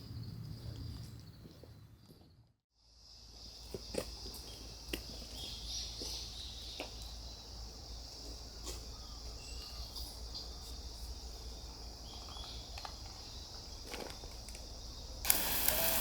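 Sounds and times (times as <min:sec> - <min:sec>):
insects trilling: 0:02.9 - 0:16.0.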